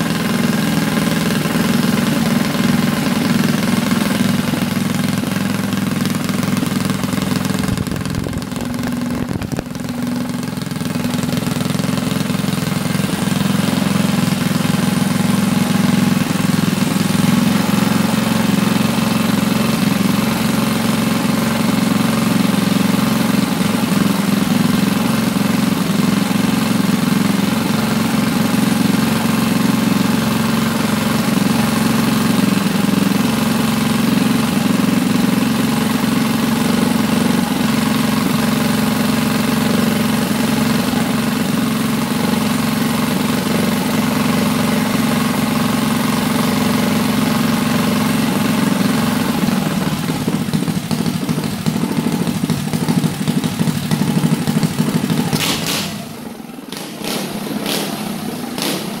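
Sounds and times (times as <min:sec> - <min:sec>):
engine idling unevenly with pops: 0:00.0 - 0:59.0
go-kart engine running fast: 0:00.0 - 0:59.0.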